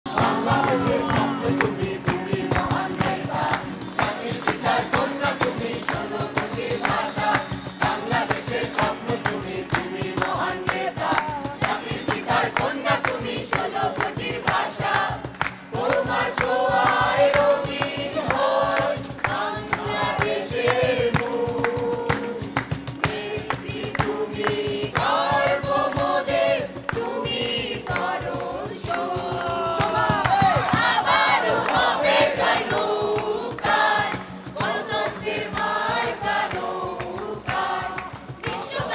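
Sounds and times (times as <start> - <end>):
acoustic guitars: 0.1 - 38.9
cajon drum: 0.1 - 38.9
group singing in chorus: 0.1 - 38.9
hands clapping on beat: 0.1 - 38.9.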